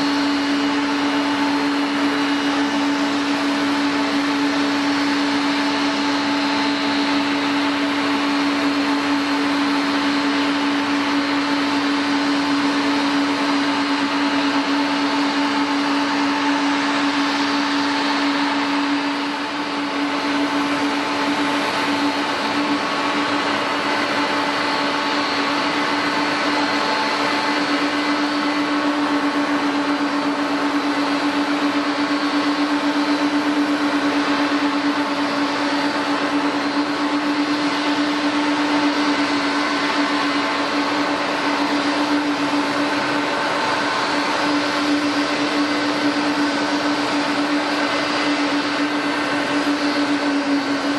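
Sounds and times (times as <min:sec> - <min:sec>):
jet turbine engines whining: 0:00.0 - 0:50.9.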